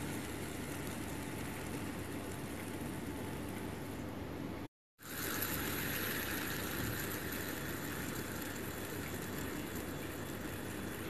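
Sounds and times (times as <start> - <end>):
fidget spinner whirring: 0.0 - 4.2, 5.0 - 11.0.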